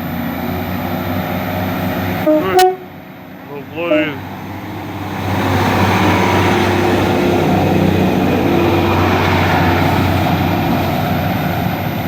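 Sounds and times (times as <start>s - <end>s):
diesel train passing: 0.0s - 12.0s.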